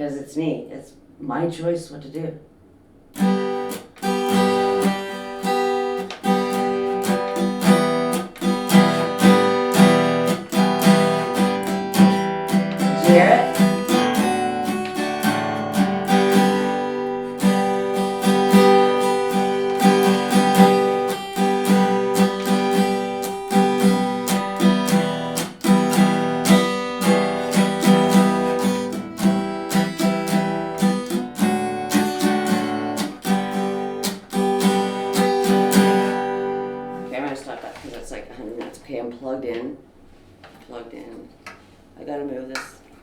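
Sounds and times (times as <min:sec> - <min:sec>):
acoustic guitar strumming: 0:02.8 - 0:38.8.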